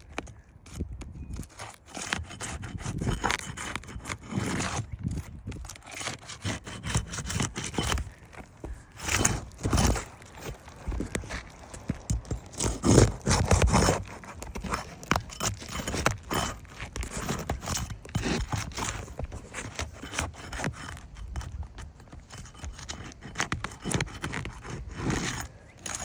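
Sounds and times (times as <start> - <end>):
pry tool scraping and knocking shingles: 0.0 - 26.0.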